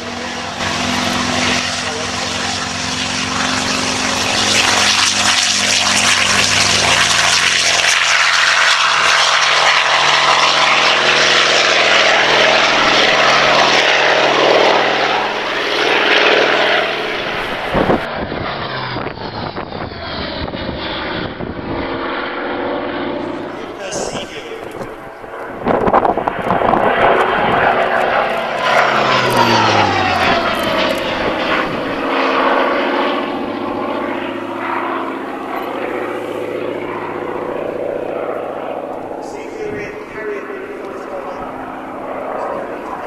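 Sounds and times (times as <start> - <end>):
propeller aircraft engine taking off: 0.0 - 43.0.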